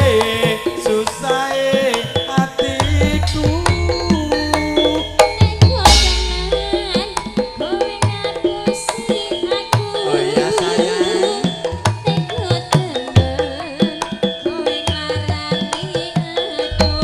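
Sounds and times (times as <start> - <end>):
ringing bronze gongs and metallophones: 0.0 - 17.0
woman singing through a microphone: 0.0 - 17.0.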